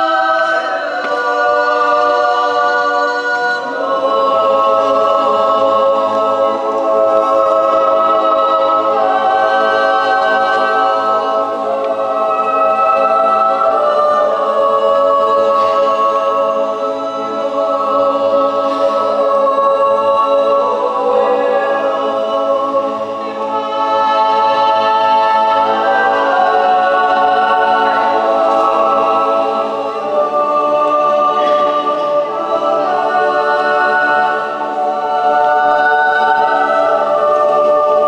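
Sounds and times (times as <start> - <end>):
choir yodel singing a cappella: 0.0 - 38.0.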